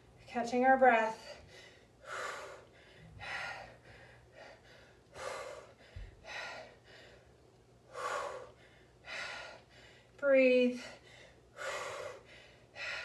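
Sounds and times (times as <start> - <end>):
woman breathing hard: 1.1 - 13.0.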